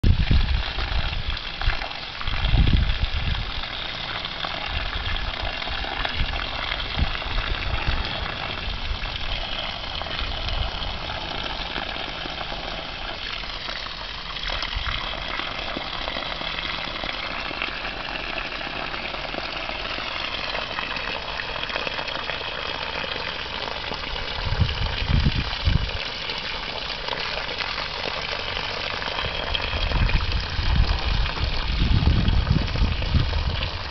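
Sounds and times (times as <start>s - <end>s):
water rushing through a tube: 0.0s - 33.9s.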